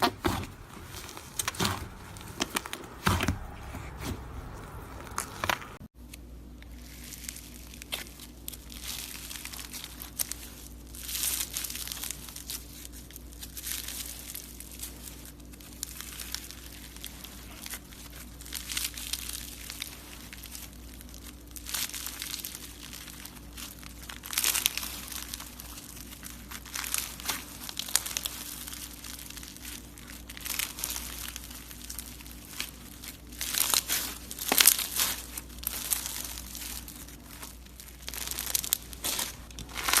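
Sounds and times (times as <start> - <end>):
slime crackling: 0.0 - 5.9, 6.8 - 40.0.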